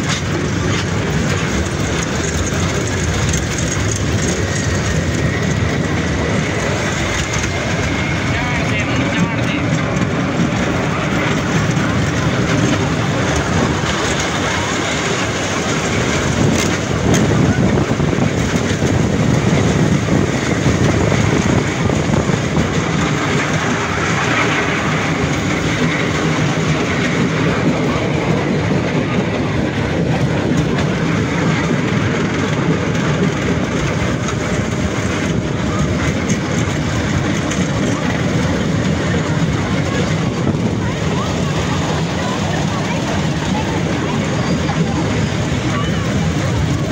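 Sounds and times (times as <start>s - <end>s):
miniature train wheels on rails: 0.0s - 46.9s.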